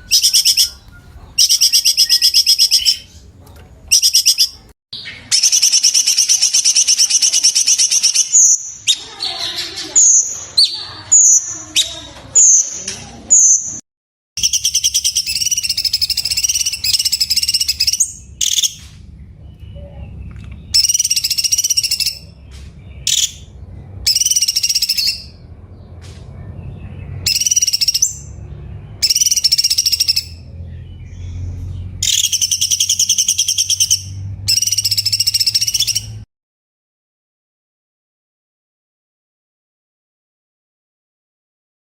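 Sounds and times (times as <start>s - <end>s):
songbird singing buzzy trills: 0.0s - 13.8s, 14.4s - 36.2s.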